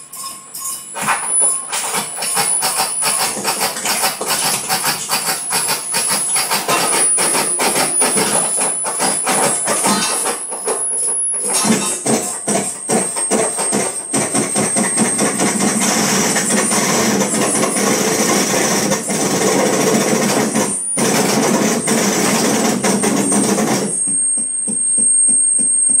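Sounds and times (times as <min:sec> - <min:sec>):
high whistle: 0:00.0 - 0:26.0.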